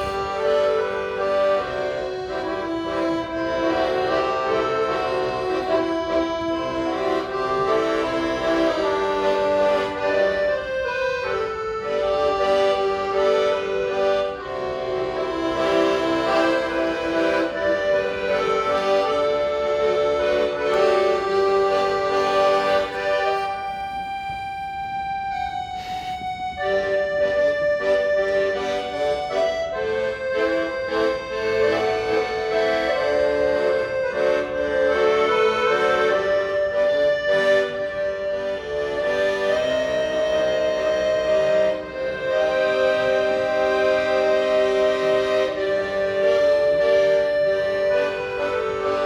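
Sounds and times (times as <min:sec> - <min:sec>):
instrumental melody over held chords: 0:00.0 - 0:49.0.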